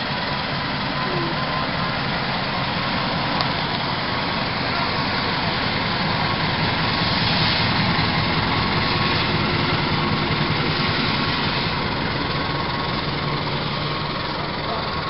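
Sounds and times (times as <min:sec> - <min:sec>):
diesel locomotive running under power: 0:00.0 - 0:15.0
train coaches rolling on rails: 0:00.0 - 0:15.0.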